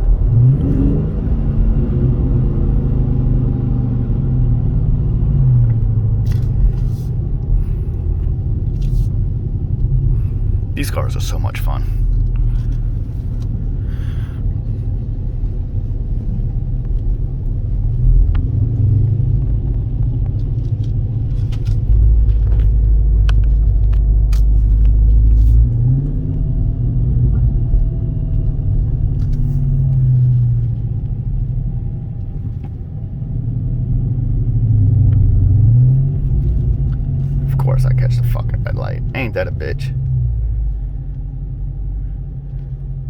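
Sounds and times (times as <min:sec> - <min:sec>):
car engine rumble: 0:00.0 - 0:43.0
road noise: 0:00.0 - 0:43.0.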